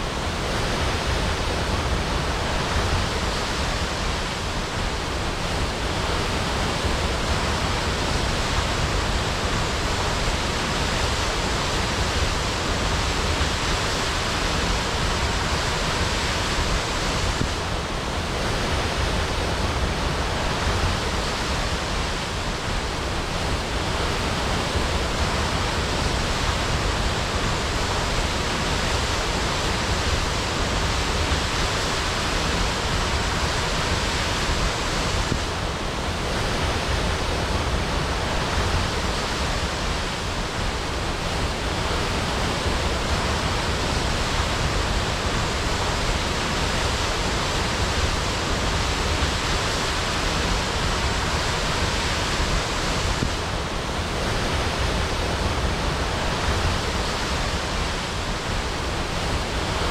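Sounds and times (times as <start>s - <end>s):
waterfall crashing: 0.0s - 59.9s.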